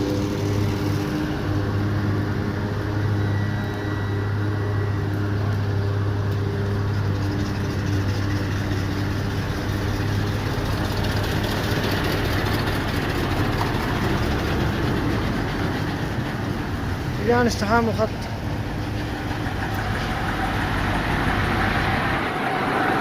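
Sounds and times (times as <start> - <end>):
diesel truck engine hum: 0.0 - 23.0.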